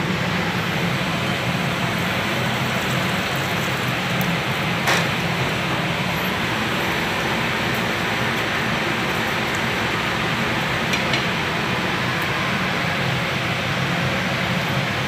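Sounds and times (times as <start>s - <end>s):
commercial kitchen rushing noise: 0.0s - 15.0s.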